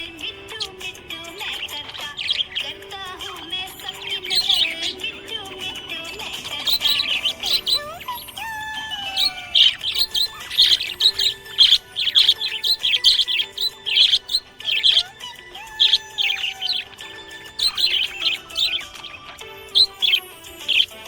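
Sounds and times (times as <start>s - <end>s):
budgerigar chirping and warbling: 0.0s - 21.0s.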